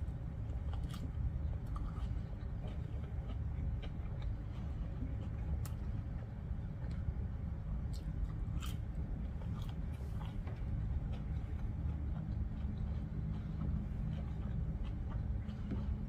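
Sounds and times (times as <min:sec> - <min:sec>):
crunchy chewing: 0:00.0 - 0:16.0
low hum: 0:00.0 - 0:16.0.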